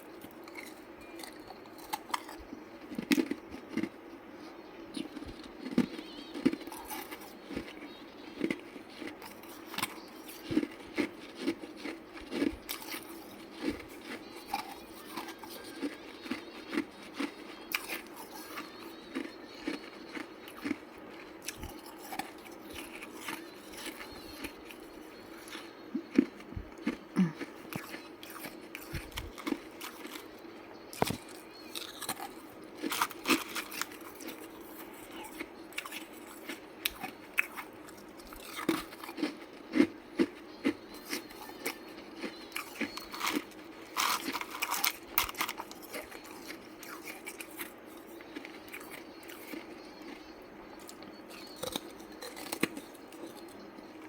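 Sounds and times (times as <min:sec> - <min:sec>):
ice being bitten and chewed: 0:00.0 - 0:03.9, 0:05.0 - 0:54.0.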